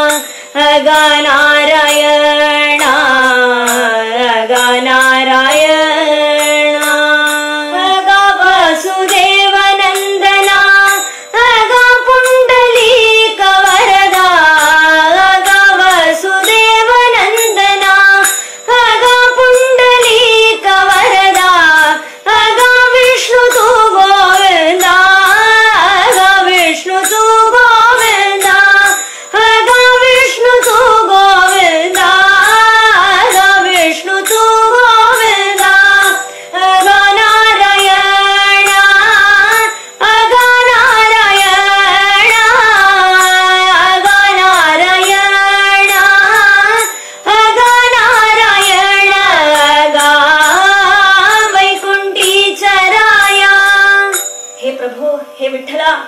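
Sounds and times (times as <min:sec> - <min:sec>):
light percussion: 0:00.0 - 0:56.0
women singing devotional song: 0:00.0 - 0:56.0.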